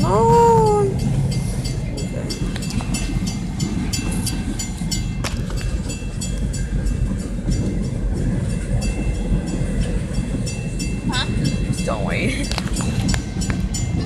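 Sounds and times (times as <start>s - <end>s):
train cars rumbling: 0.0s - 14.0s
wheels clicking over rail joints: 0.0s - 14.0s.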